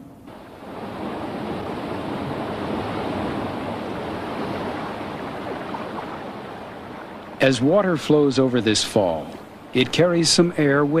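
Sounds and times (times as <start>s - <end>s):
water rushing over rocks: 0.3s - 11.0s.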